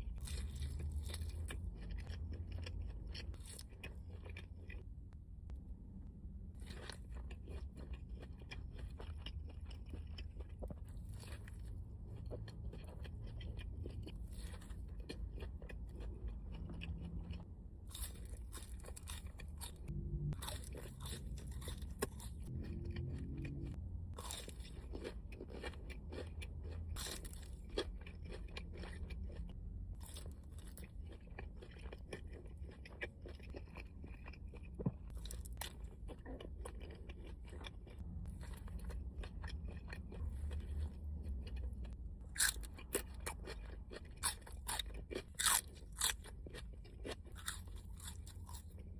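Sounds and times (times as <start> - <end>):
crunching and wet chewing: 0.0 - 5.1, 6.5 - 48.9.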